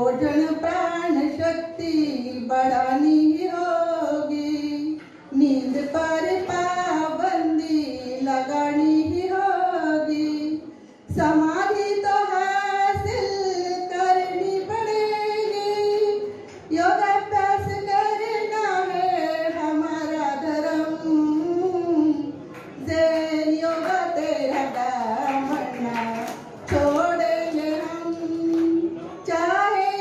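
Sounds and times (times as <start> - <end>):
woman singing unaccompanied: 0.0 - 30.0.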